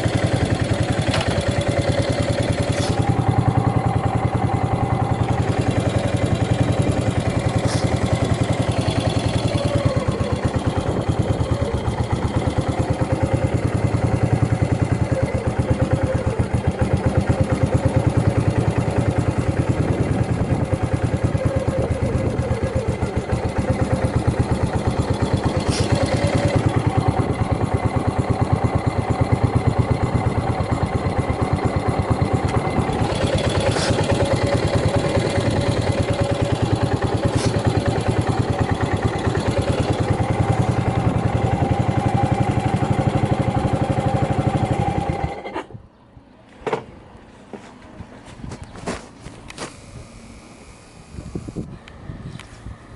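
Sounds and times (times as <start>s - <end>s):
motorcycle engine idling: 0.0s - 48.8s.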